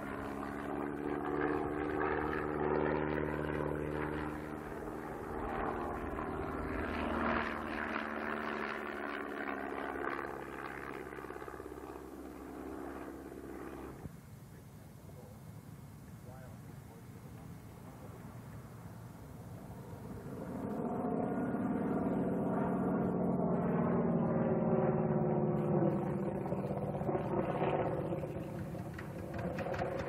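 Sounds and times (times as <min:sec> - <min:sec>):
propeller plane engine droning: 0:00.0 - 0:30.0.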